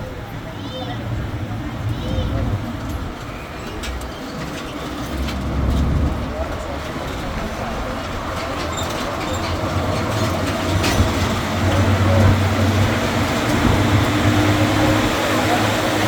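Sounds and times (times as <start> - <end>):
road noise: 0.0 - 16.0.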